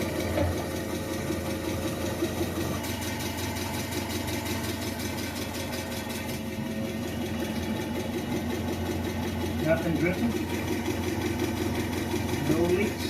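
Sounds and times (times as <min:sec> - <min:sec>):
forklift engine idling: 0:00.0 - 0:13.0.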